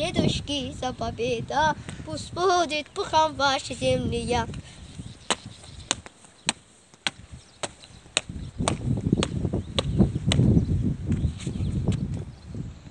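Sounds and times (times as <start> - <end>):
wind rumble on microphone: 0.0 - 12.9.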